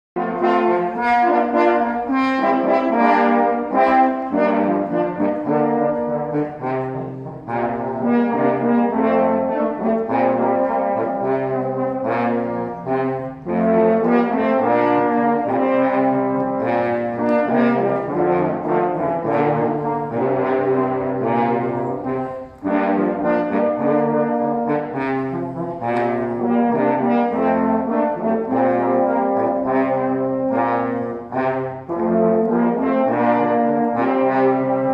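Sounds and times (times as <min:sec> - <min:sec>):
french horn ensemble playing: 0:00.2 - 0:34.9.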